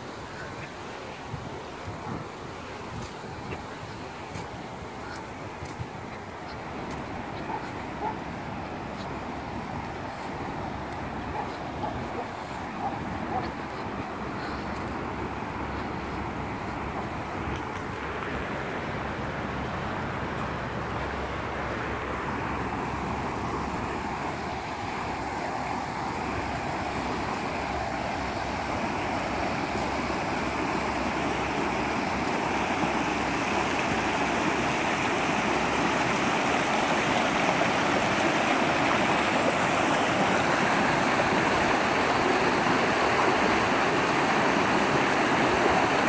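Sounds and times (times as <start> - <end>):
floodwater rushing: 0.0 - 46.0.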